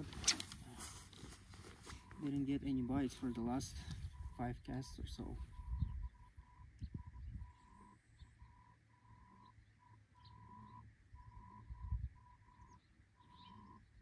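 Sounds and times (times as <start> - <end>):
faint bird chirps: 1.8 - 14.0.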